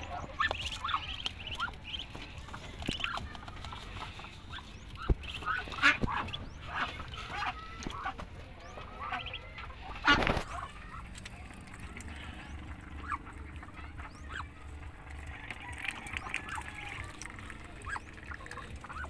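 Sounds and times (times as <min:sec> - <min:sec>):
ducklings peeping: 0:00.0 - 0:19.0.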